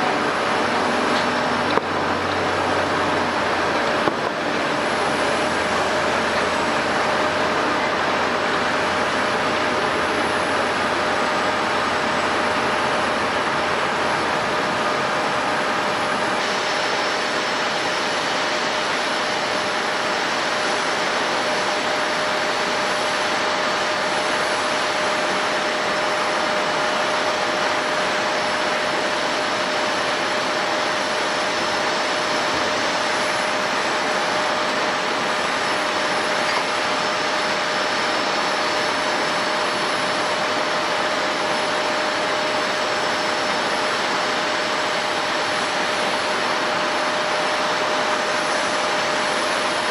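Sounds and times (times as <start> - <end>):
jet engines roaring with whine: 0.0 - 49.9.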